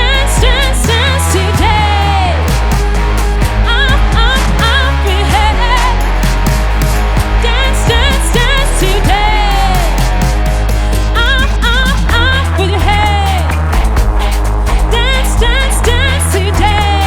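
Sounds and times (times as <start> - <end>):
fast drum pattern: 0.0 - 17.0
heavy sub-bass: 0.0 - 17.0.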